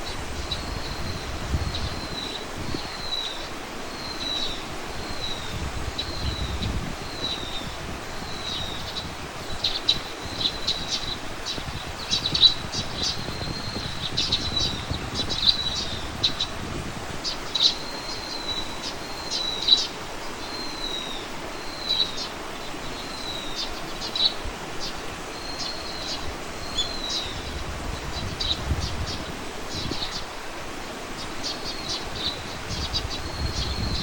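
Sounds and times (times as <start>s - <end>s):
small bird chirping: 0.0s - 30.3s
outdoor background hiss: 0.0s - 34.0s.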